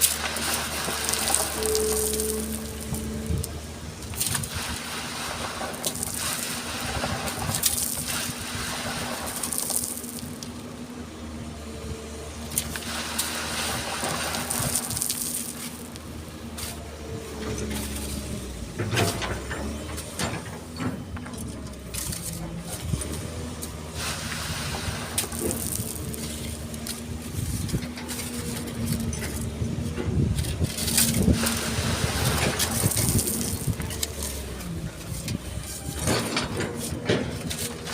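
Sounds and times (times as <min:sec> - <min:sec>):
bucket scraping sand and stones: 0:00.0 - 0:11.0, 0:12.3 - 0:37.9
excavator diesel engine running: 0:00.0 - 0:37.9.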